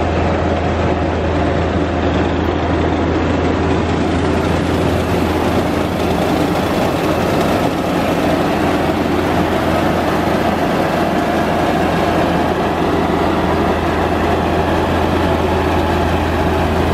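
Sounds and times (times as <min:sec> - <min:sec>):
milling machinery drone: 0:00.0 - 0:16.9.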